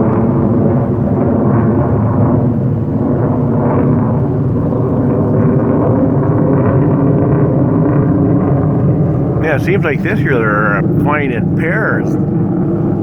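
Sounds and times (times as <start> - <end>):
jet engines passing overhead: 0.0 - 13.0.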